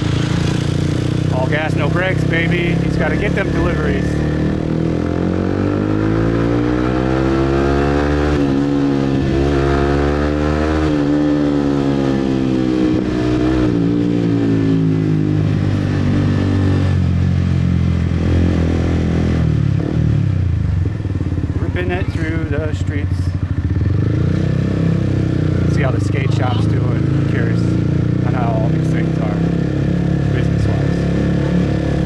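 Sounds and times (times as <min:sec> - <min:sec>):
motorbike engine revving: 0:00.0 - 0:32.0.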